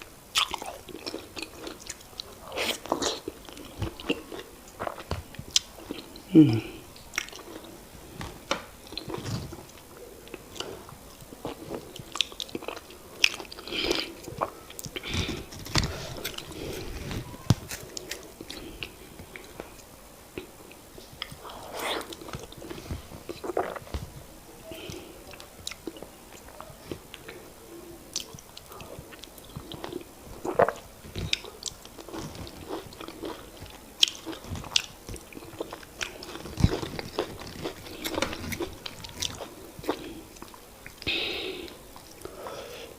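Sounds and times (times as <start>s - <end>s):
chewing: 0.3s - 24.0s, 24.7s - 27.5s, 28.1s - 42.4s.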